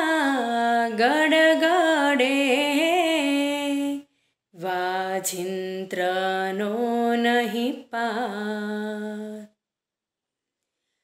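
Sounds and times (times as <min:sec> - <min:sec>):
woman singing devotional song: 0:00.0 - 0:09.6.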